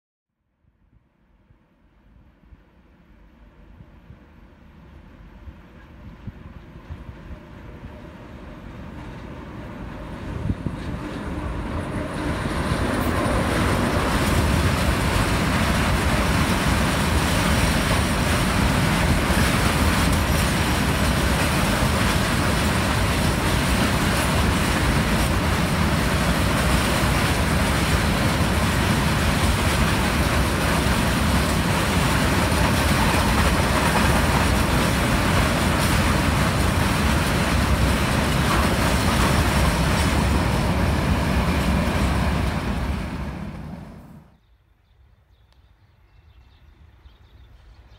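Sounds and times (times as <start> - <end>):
train wheels rolling on rails: 4.0 - 44.3.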